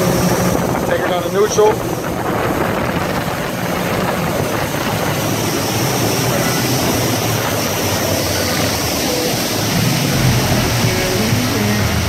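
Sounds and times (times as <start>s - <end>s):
outboard motors drone: 0.0s - 12.0s
rushing water: 0.0s - 12.0s.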